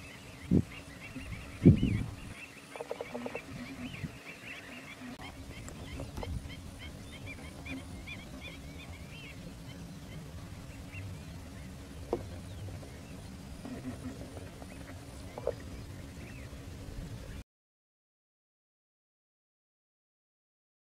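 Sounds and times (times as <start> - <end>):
flock of ducks calling: 0.0 - 17.4
steady low rumble: 0.0 - 17.4.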